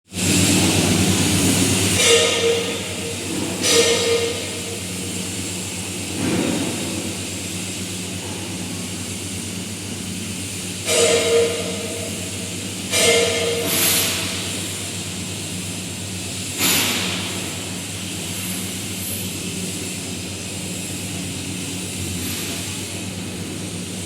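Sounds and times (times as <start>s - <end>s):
lathe mechanical hum: 0.1s - 24.0s.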